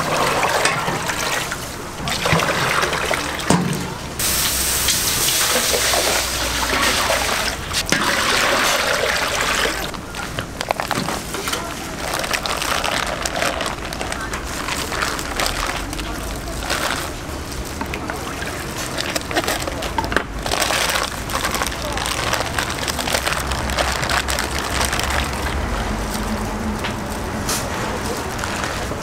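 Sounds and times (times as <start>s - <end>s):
water pouring and splashing: 0.0s - 29.0s.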